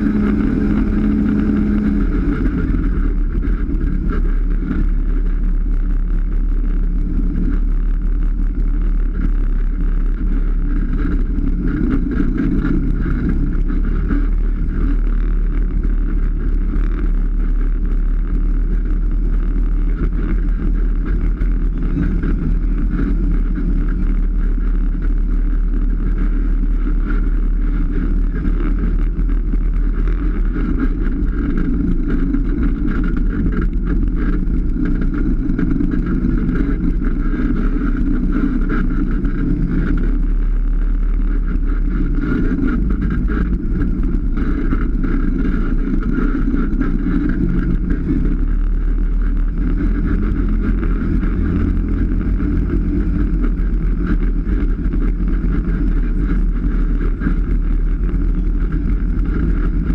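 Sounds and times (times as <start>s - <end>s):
off-road vehicle engine droning: 0.0s - 59.9s.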